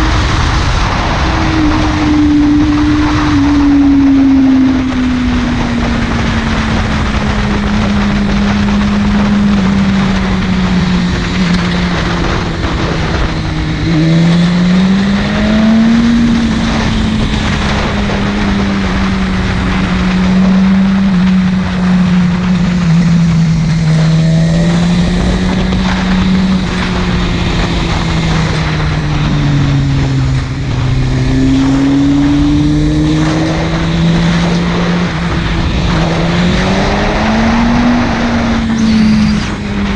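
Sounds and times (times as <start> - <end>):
motorcycle engine revving: 0.0 - 39.9
rushing wind noise: 0.0 - 39.9.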